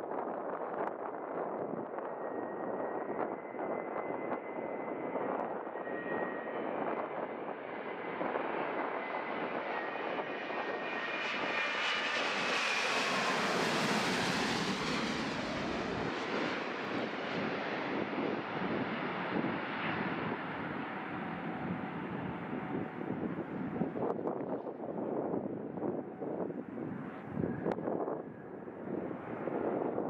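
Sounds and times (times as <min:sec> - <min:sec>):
jetliner passing low overhead: 0:00.0 - 0:30.0.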